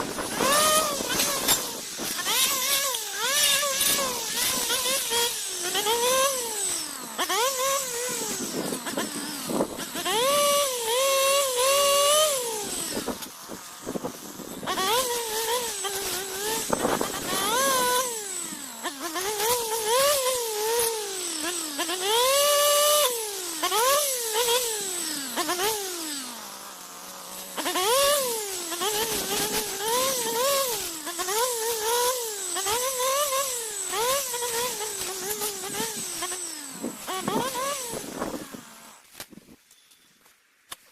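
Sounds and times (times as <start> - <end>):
weedeater engine revving: 0.0 - 39.1.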